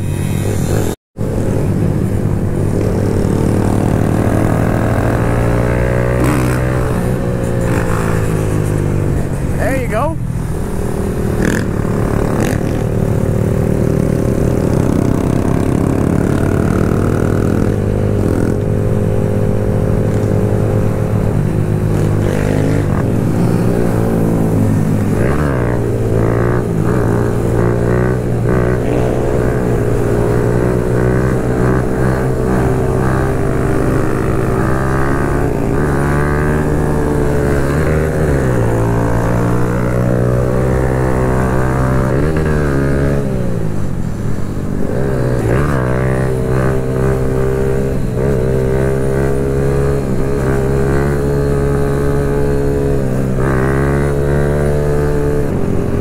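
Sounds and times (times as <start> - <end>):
other motorcycle engines: 0.0 - 56.0.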